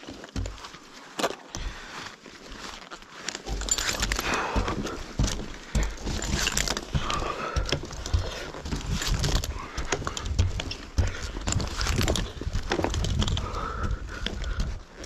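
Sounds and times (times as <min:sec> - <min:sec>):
heavy breathing: 0:01.5 - 0:15.0.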